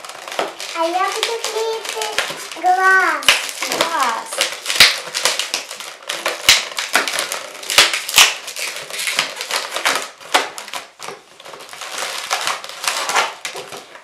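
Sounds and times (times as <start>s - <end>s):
rubber balloons squeaking: 0.0s - 14.0s.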